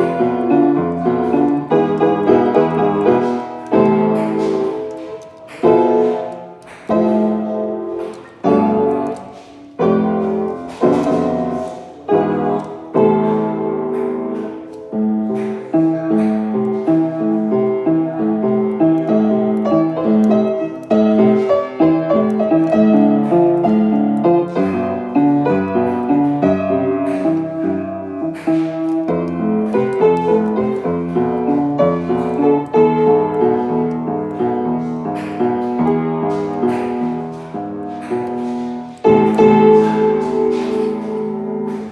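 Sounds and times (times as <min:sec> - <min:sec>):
piano music: 0:00.0 - 0:41.9.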